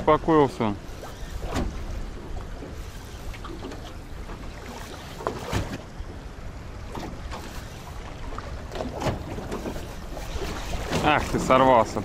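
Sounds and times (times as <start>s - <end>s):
waves hitting boat hull: 0.0s - 12.0s.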